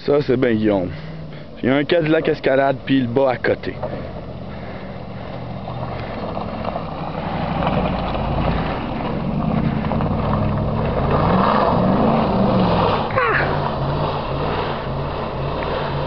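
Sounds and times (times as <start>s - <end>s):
car engine revving: 0.7s - 16.0s.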